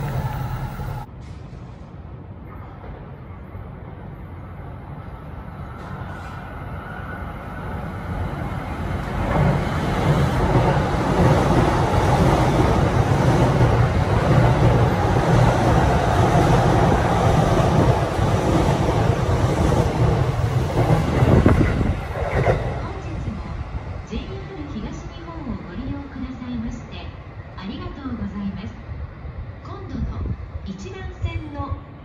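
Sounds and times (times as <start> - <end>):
electric train passing: 0.0 - 27.5.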